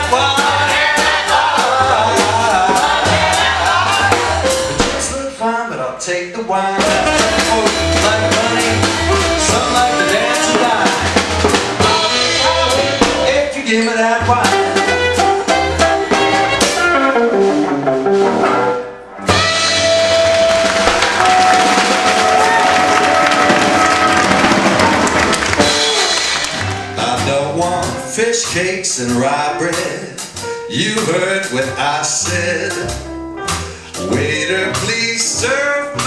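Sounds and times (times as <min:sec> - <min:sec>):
live band playing instrumental: 0:00.0 - 0:05.2, 0:06.8 - 0:36.0.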